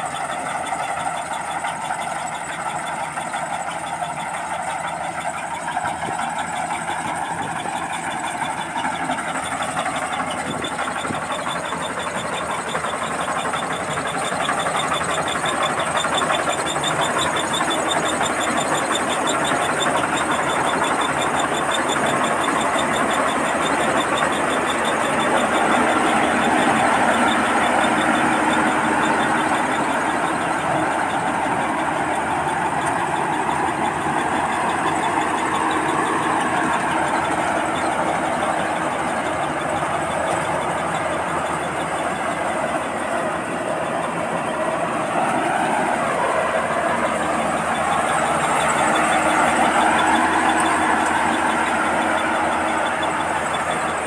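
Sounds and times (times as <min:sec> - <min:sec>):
combine harvester engine and machinery: 0:00.0 - 0:54.0.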